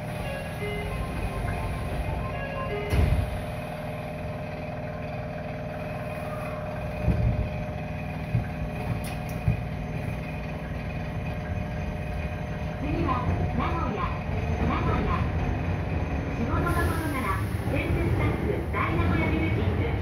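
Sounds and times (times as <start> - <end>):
subway car interior hum: 0.0 - 20.0.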